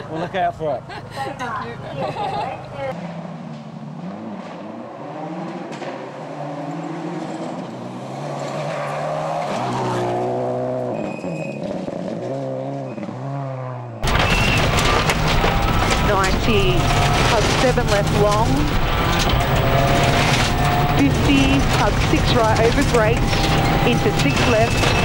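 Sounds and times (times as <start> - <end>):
rally car engine revving: 2.9 - 25.0.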